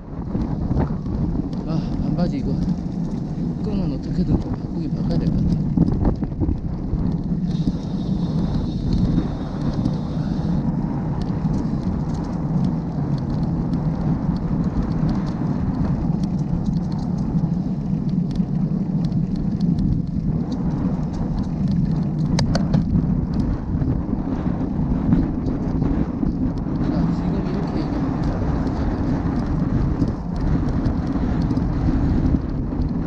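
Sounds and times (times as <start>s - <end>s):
road vibration rumble: 0.0s - 33.0s
wind buffeting: 0.0s - 33.0s
light ticks and rattles: 0.2s - 33.0s.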